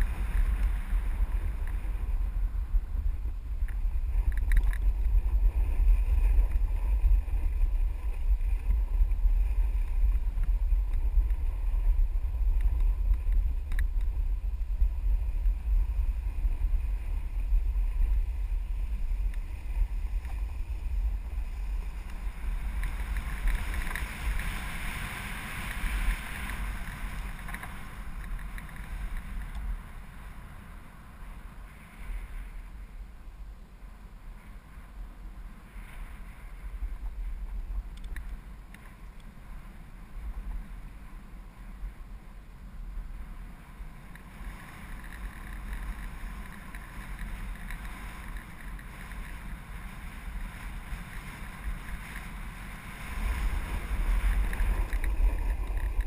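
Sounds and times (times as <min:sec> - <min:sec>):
snowboard scraping over snow: 0:00.0 - 0:56.0
wind buffeting microphone: 0:00.0 - 0:56.0.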